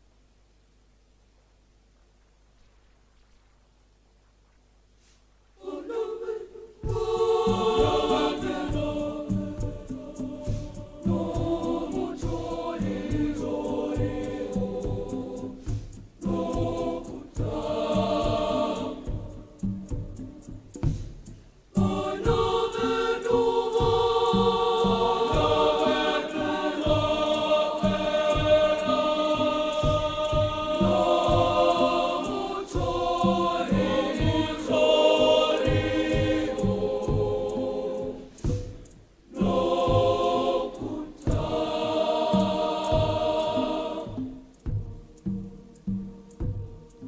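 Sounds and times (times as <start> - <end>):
girls' choir singing: 5.6 - 21.0, 21.7 - 47.0
steady low beat: 6.8 - 47.0.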